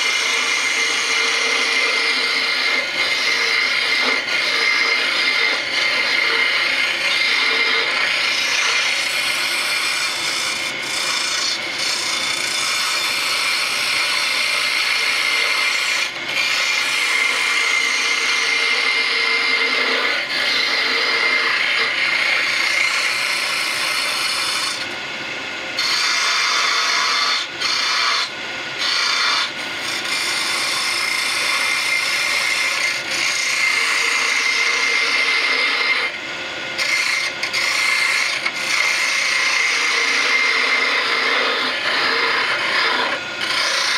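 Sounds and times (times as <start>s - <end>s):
lathe machine whine: 0.0s - 43.9s
lathe tool scraping wood: 0.0s - 43.9s.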